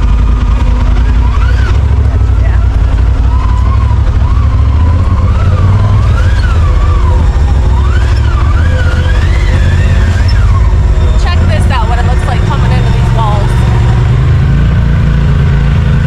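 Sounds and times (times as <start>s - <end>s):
utility vehicle engine rumble: 0.0s - 16.0s.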